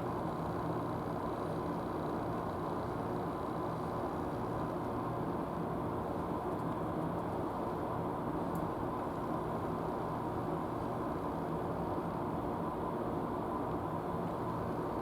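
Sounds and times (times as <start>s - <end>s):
mechanical hum with faint whine: 0.0s - 15.0s.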